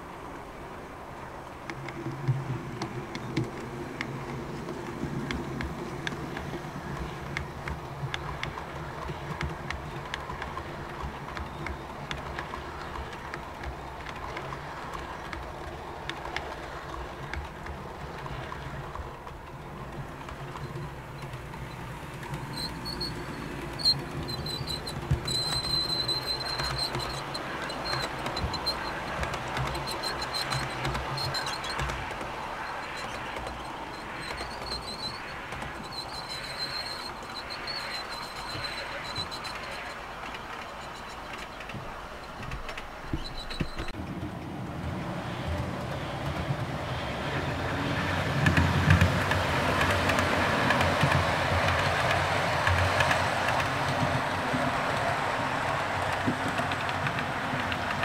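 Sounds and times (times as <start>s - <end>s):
wheels clicking over rail joints: 0.0s - 58.0s.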